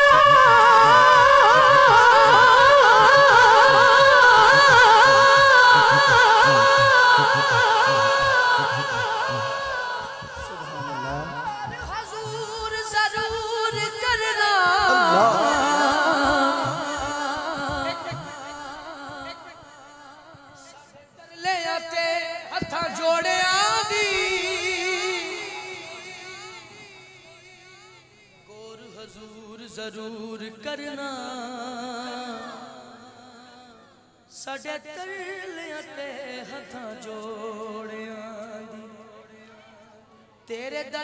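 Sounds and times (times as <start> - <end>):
man singing: 0.0 - 27.7, 28.3 - 41.0.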